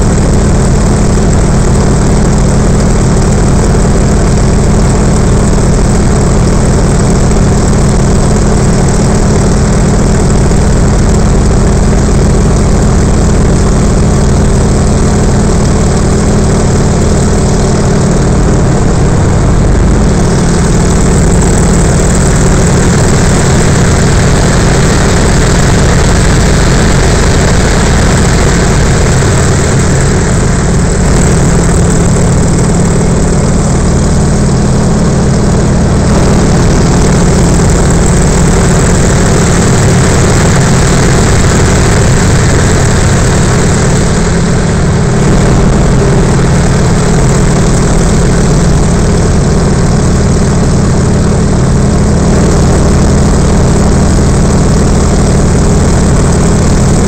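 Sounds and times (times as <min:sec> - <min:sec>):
aircraft engine and propeller running: 0:00.0 - 0:57.0.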